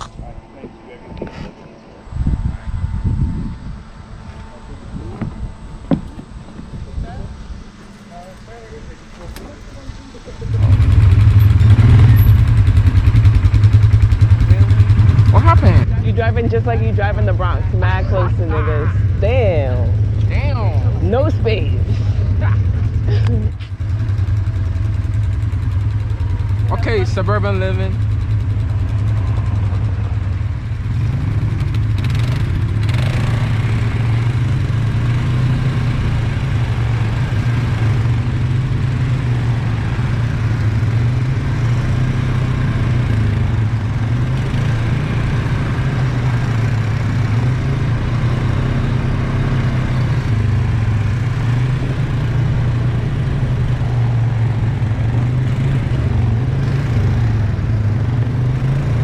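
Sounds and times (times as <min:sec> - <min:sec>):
all-terrain vehicle engine running: 0:02.1 - 0:59.0.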